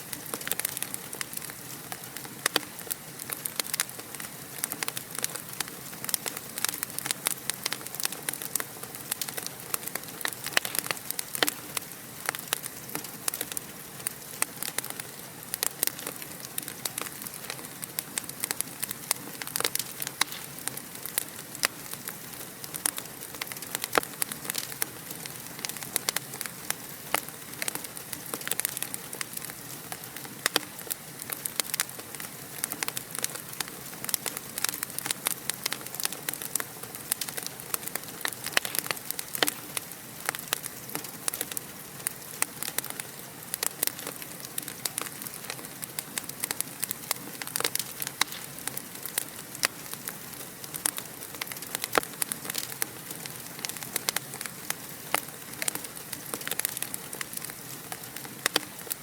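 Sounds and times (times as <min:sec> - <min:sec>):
wood fire crackling in fireplace: 0:00.0 - 0:59.0.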